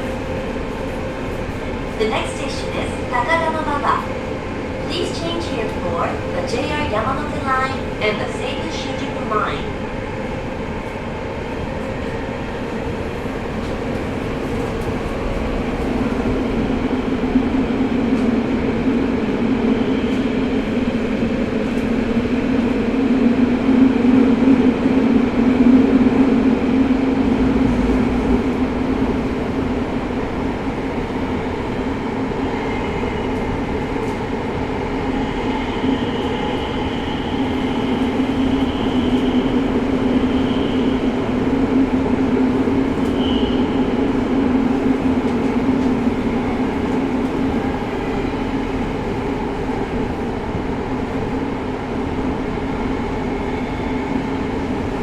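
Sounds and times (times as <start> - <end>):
subway train wheels rumbling: 0.0 - 55.0.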